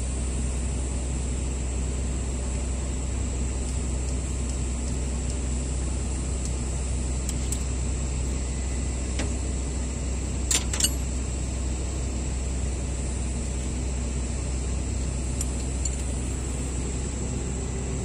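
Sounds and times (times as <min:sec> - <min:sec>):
machinery engine rumble: 0:01.8 - 0:18.0.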